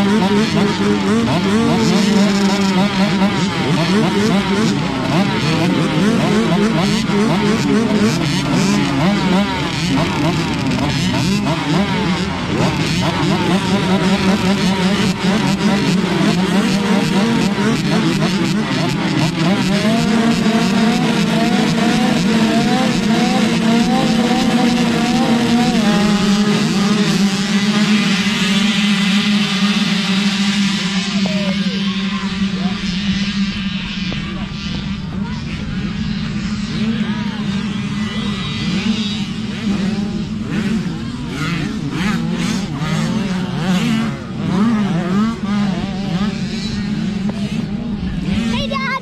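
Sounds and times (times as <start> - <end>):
motocross bikes revving: 0.0 - 49.0.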